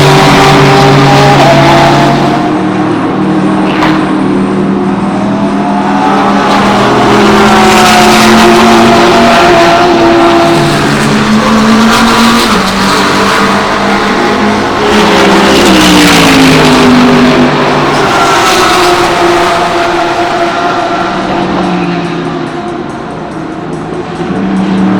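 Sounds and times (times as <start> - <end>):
race cars passing at speed: 0.0 - 24.9.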